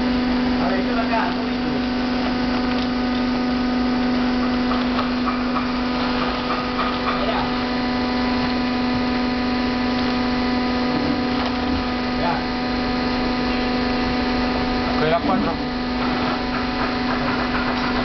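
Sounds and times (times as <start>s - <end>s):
press machine electric hum: 0.0s - 18.0s.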